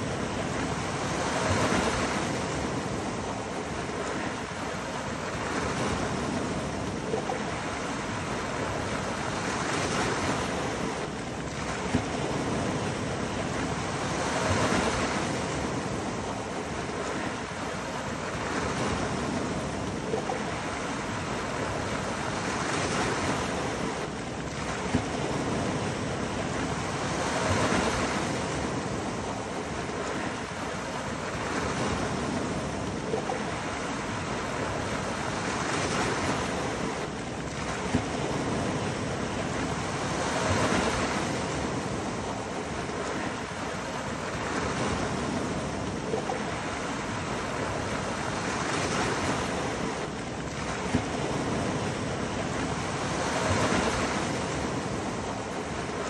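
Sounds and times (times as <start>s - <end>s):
waves breaking on rocky shore: 0.0s - 56.0s.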